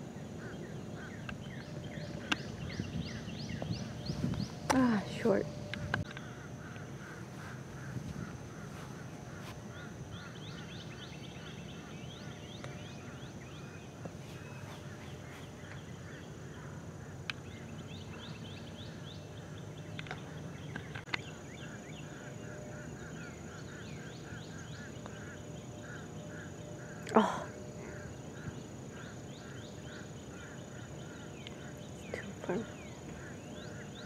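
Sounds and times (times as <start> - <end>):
birds chirping: 0.0 - 34.0
high-pitched whine: 0.0 - 34.0.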